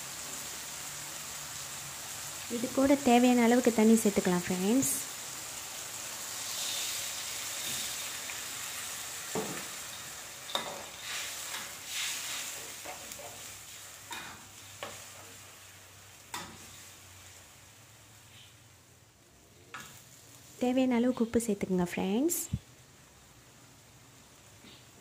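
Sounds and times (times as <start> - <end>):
hissing sizzle in a hot wok: 0.0 - 25.0.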